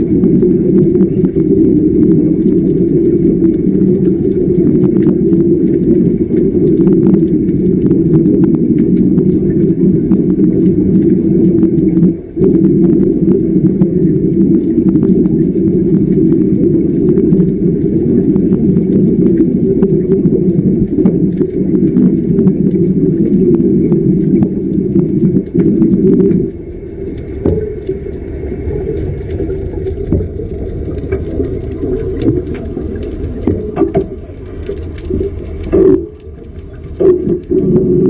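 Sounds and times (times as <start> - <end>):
sharp crackling clicks: 0.0 - 38.0
underwater welding rumble: 0.0 - 38.0.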